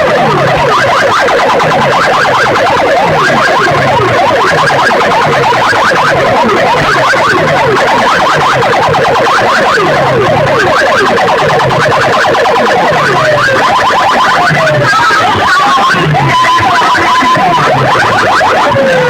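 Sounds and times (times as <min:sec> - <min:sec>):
pulsing bass: 0:00.0 - 0:19.0
siren-like electronic tones: 0:00.0 - 0:19.0.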